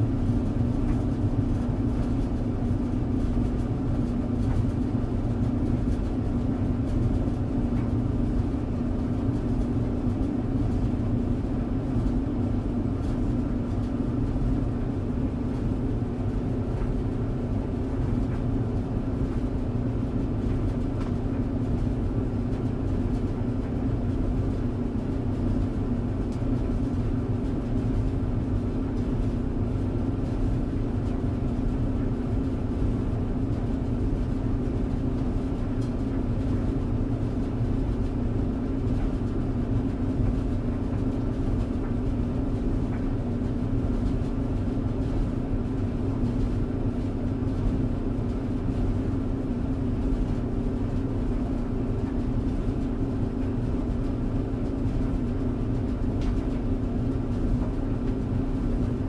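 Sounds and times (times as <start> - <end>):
tumble dryer running: 0.0 - 59.0.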